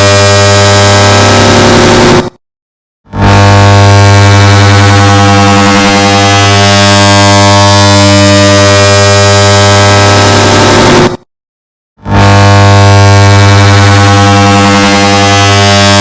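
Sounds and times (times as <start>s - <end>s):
distorted buzzing drone: 0.0s - 2.4s, 3.1s - 11.2s, 12.0s - 16.0s.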